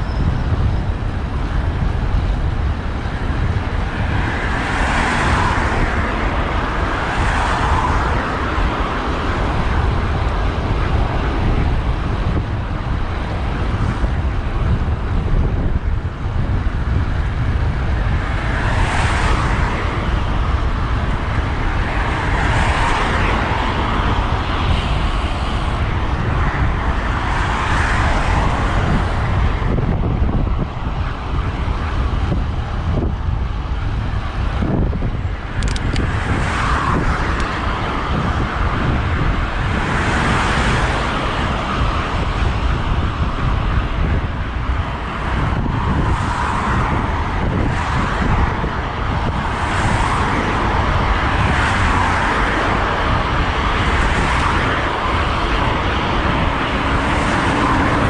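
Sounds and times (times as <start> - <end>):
passing road traffic: 0.0 - 58.0
wind and road noise: 0.0 - 58.0.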